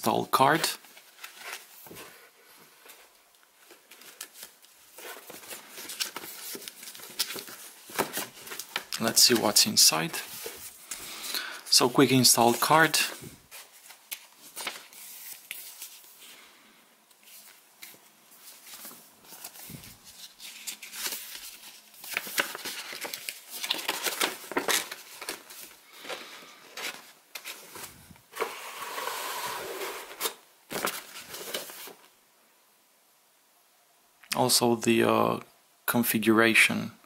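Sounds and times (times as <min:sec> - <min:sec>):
paper rustling and crinkling: 0:00.5 - 0:11.1, 0:11.7 - 0:16.3, 0:17.2 - 0:32.1.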